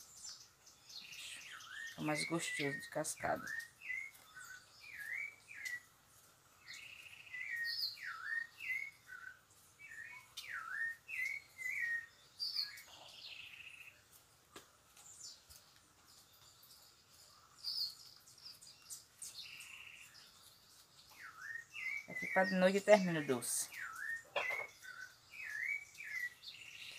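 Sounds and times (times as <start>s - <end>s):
birds singing: 0.0s - 26.9s.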